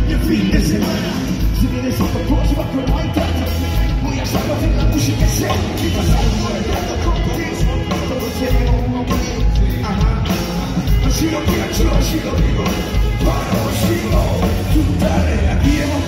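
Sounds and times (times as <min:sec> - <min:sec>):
drums: 0:00.0 - 0:16.0
electric guitars: 0:00.0 - 0:16.0
funk rock band playing: 0:00.0 - 0:16.0.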